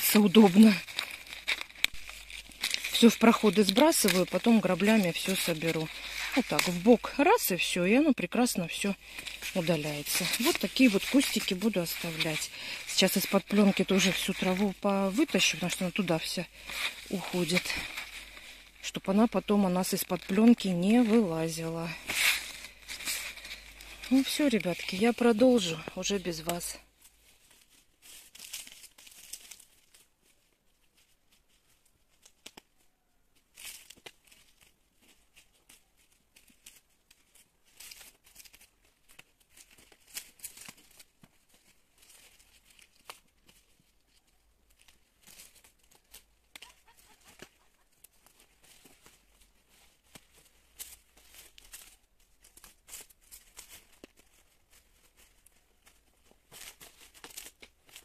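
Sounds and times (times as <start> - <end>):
dry leaves rustling and tearing: 0.0 - 32.6, 33.5 - 58.0.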